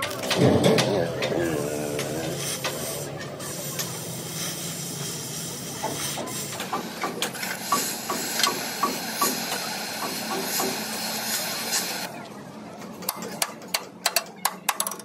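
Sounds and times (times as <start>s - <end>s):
cutting torch hissing: 0.0s - 12.1s.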